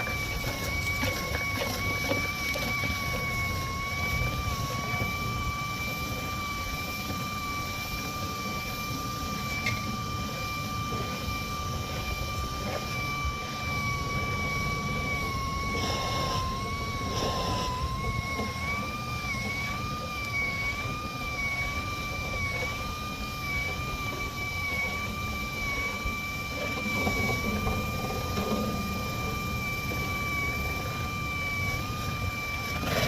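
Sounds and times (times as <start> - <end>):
electric motor whine: 0.0 - 33.0.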